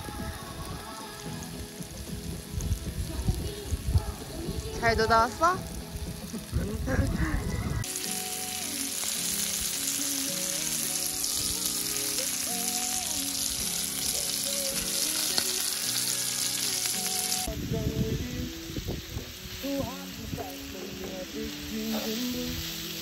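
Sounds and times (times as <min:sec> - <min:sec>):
soft background music: 0:00.0 - 0:23.0
steak sizzling in frying pan: 0:00.0 - 0:23.0.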